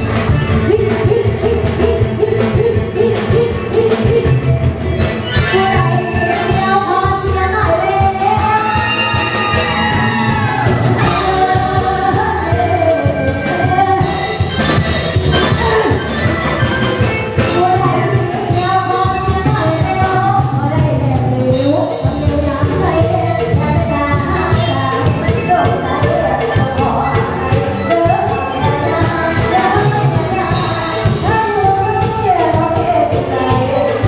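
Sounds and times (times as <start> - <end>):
live band bass and drums: 0.0 - 34.0
woman singing into a microphone: 0.4 - 10.3, 11.0 - 14.6, 17.5 - 34.0.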